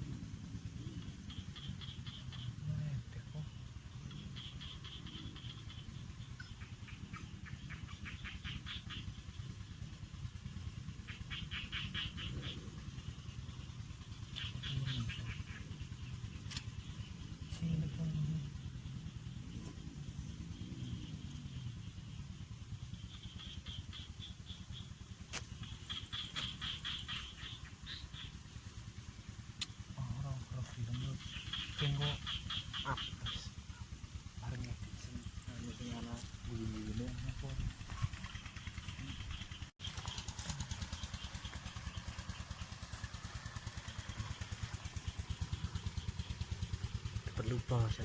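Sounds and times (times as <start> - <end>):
small animal chirping: 0.0 - 48.0
small engine idling: 0.0 - 48.0.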